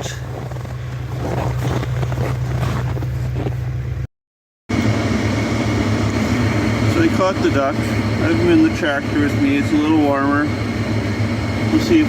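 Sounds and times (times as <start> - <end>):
tractor engine running: 0.0 - 4.1, 4.7 - 12.0.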